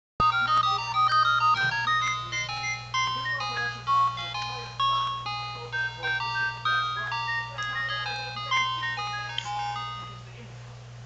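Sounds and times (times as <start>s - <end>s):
baby toy chime tune: 0.2s - 10.2s.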